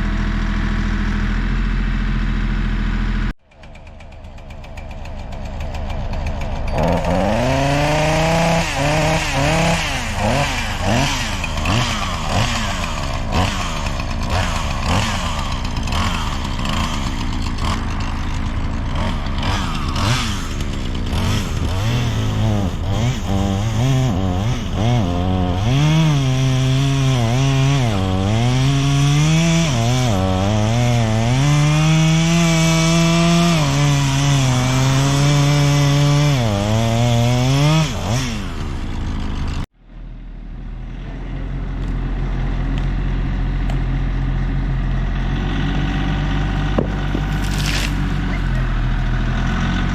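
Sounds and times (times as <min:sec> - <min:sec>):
chainsaw cutting wood: 0:00.0 - 0:39.7, 0:41.8 - 0:49.9.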